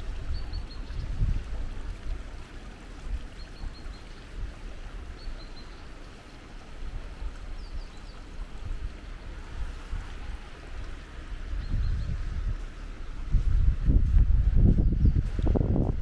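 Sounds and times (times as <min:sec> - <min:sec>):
river water flowing: 0:00.0 - 0:14.7.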